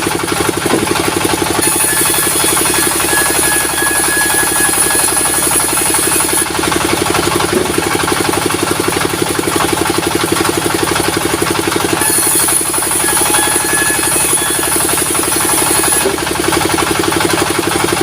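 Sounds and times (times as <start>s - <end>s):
sawmill engine chugging: 0.0s - 18.0s.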